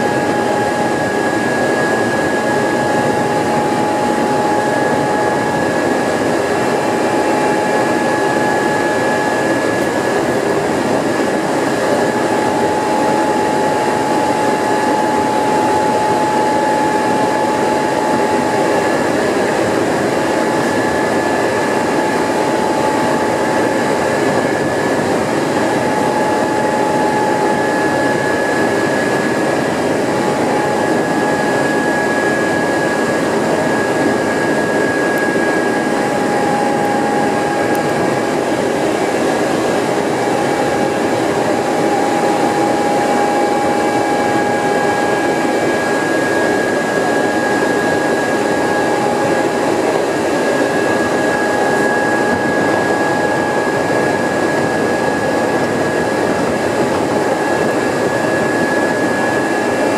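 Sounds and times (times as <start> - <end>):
traction motor whine: 0.0 - 59.9.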